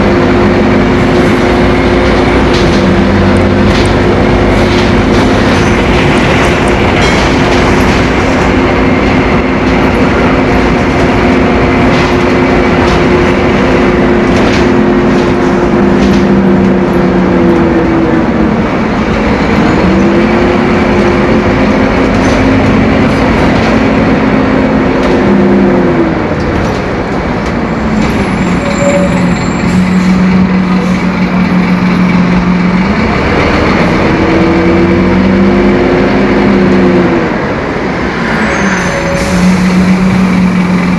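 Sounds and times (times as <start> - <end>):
diesel engine running under load: 0.0 - 40.9.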